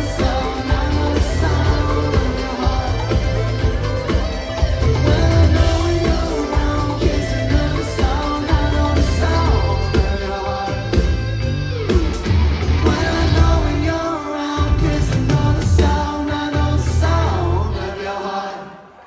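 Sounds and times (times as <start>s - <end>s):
live pop-rock band playing: 0.0s - 17.3s
person singing: 0.0s - 18.9s.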